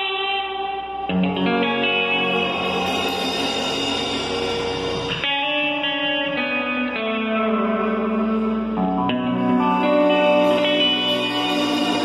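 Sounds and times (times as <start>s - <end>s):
live surf rock band: 0.0s - 12.0s.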